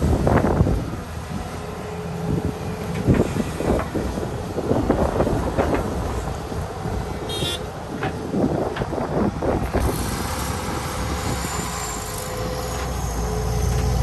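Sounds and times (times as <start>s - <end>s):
diesel engine working: 0.0s - 14.0s.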